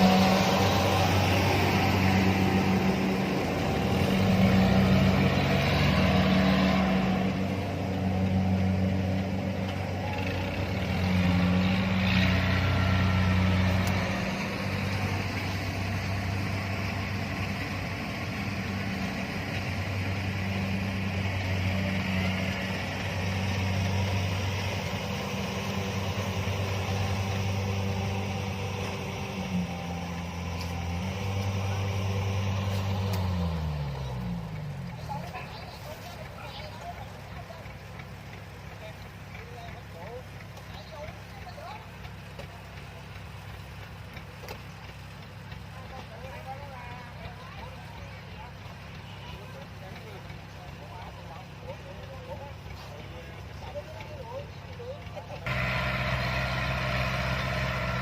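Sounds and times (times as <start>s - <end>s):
combine harvester engine humming: 0.0s - 58.0s.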